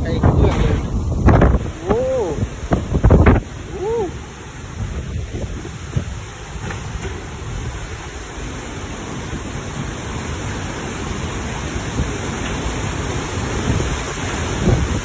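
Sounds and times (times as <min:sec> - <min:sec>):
heavy rain: 0:00.0 - 0:15.0
storm wind: 0:00.0 - 0:15.0
wind gusts buffeting microphone: 0:00.0 - 0:15.0.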